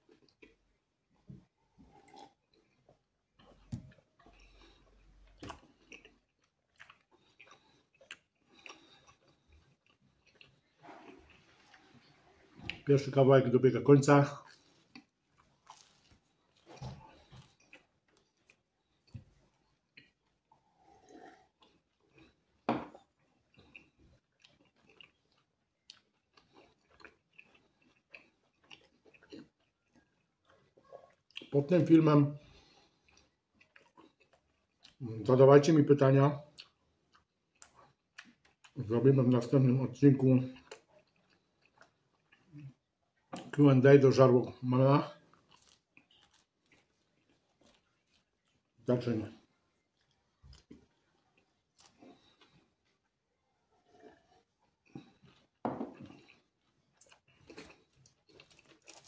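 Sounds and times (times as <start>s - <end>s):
chewing and biting food: 0.0s - 0.8s, 1.5s - 12.9s, 14.1s - 31.8s, 32.4s - 35.1s, 36.4s - 38.9s, 40.3s - 43.6s, 45.2s - 59.0s.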